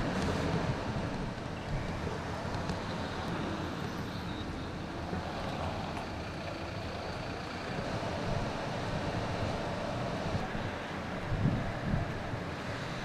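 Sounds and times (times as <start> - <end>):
bus engine: 0.0 - 13.0
road noise: 0.0 - 13.0.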